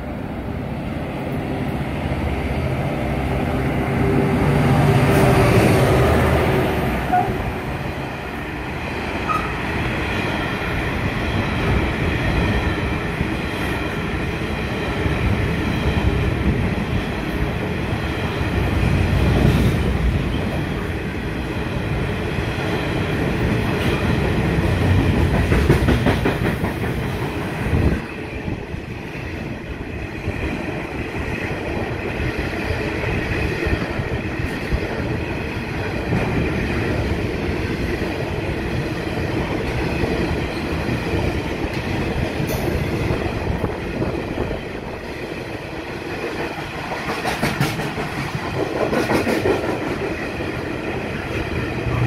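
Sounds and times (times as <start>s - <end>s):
steel wheels rumbling on rail: 0.0s - 52.0s.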